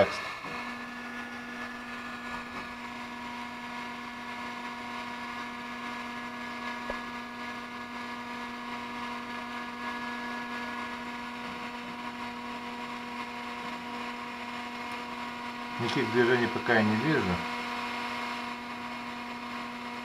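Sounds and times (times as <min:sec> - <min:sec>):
printer fans and motors humming: 0:00.0 - 0:20.0.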